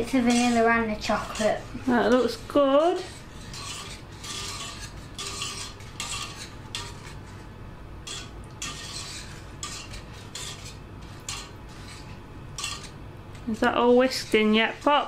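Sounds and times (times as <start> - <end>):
whisk scraping a saucepan: 0.0 - 15.0.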